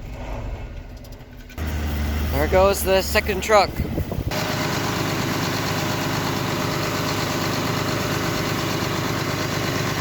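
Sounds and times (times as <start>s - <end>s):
engine running steadily: 1.6s - 10.0s.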